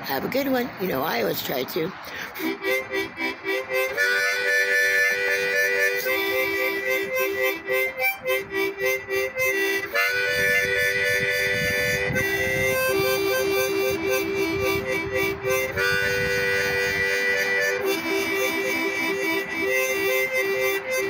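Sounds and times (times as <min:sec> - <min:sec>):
harmonica chords: 0:01.9 - 0:21.0.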